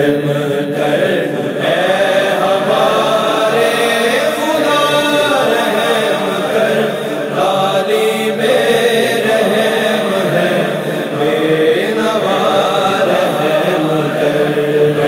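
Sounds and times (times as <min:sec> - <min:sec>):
vocal chorus chanting and humming: 0:00.0 - 0:15.0.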